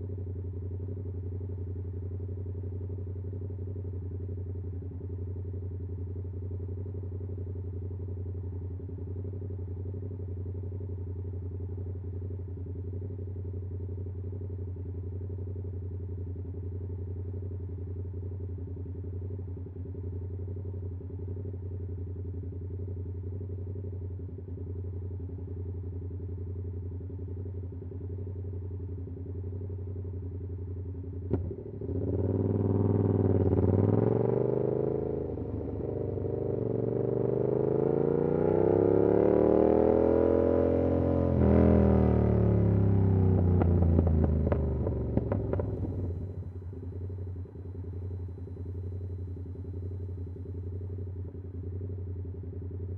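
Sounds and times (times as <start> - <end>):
motorcycle engine idling: 0.0 - 34.0, 42.4 - 52.9.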